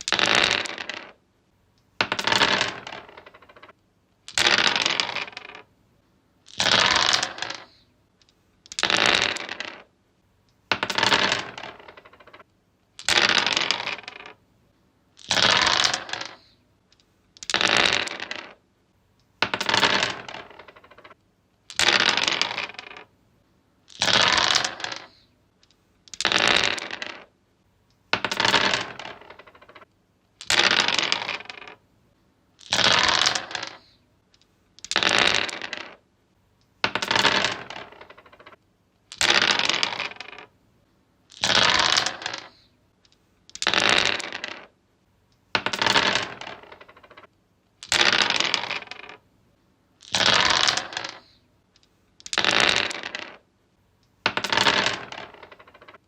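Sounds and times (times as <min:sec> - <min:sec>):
dice clattering on wood: 0:00.0 - 0:01.2, 0:02.0 - 0:03.7, 0:04.3 - 0:05.7, 0:06.4 - 0:09.9, 0:10.7 - 0:12.4, 0:13.0 - 0:14.4, 0:15.2 - 0:18.6, 0:19.3 - 0:23.1, 0:23.9 - 0:27.3, 0:28.0 - 0:31.8, 0:32.6 - 0:36.0, 0:36.7 - 0:40.5, 0:41.3 - 0:44.8, 0:45.4 - 0:49.2, 0:50.0 - 0:53.5, 0:54.1 - 0:56.0.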